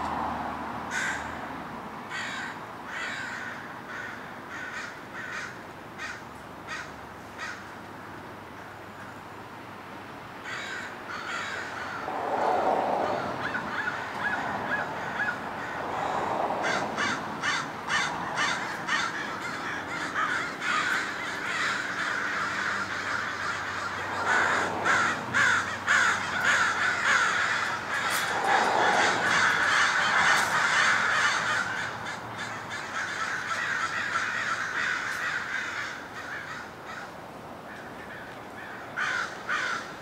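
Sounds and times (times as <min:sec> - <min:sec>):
crows cawing: 0:00.9 - 0:01.5, 0:02.1 - 0:07.8, 0:10.4 - 0:40.0.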